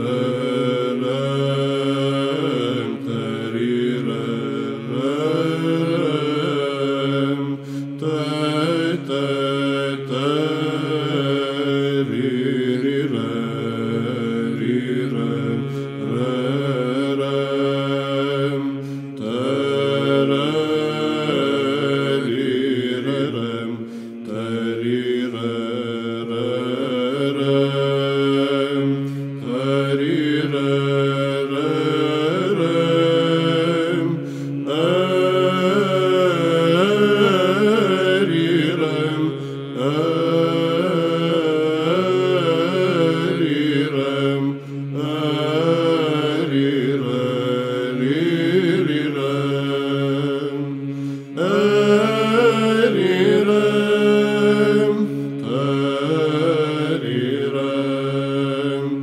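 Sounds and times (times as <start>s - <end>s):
low vocal drone: 0.0s - 59.0s
men chanting: 0.0s - 59.0s.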